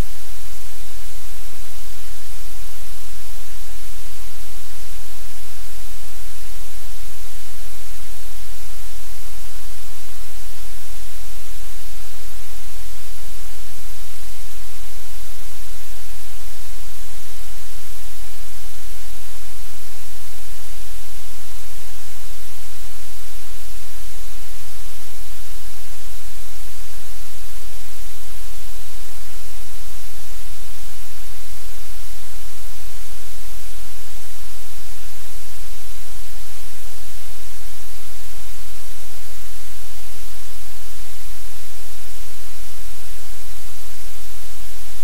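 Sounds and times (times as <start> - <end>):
low electrical hum: 0.0 - 45.0
static hiss: 0.0 - 45.0.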